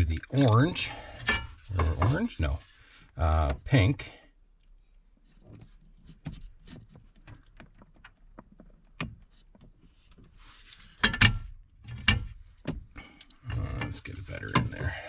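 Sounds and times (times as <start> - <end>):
wires and plastic rubbing: 0.0 - 3.8, 4.6 - 15.0.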